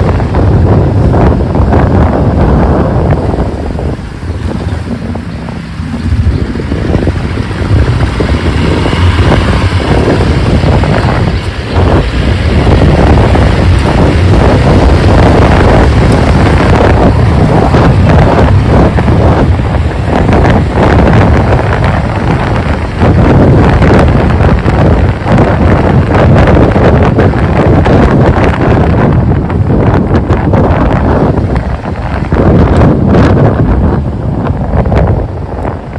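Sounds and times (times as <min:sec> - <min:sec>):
motorcycle engine and road noise: 0:00.0 - 0:35.9
wind buffeting microphone: 0:00.0 - 0:35.9.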